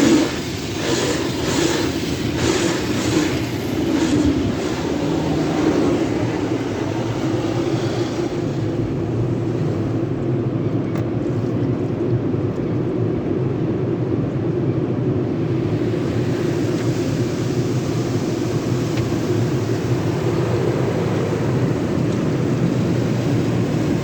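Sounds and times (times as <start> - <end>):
car wash machinery drone: 0.0 - 24.0.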